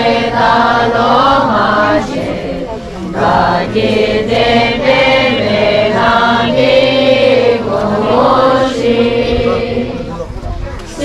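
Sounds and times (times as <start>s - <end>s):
group of voices chanting: 0.0s - 10.3s.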